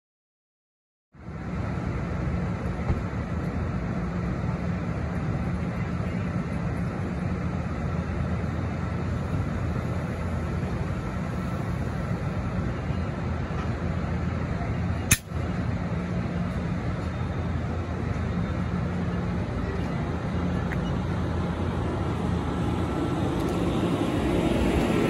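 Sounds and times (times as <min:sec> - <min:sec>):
idling train engine rumble and hum: 0:01.1 - 0:25.0.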